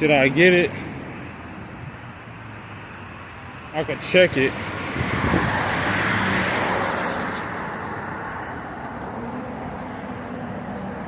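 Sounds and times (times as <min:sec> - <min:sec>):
steady traffic hum: 0:00.0 - 0:11.0
vehicle passing: 0:00.0 - 0:11.0.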